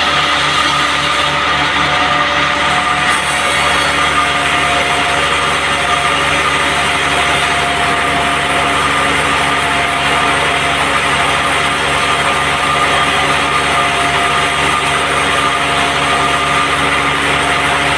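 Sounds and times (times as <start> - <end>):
band sawmill running: 0.0 - 17.9.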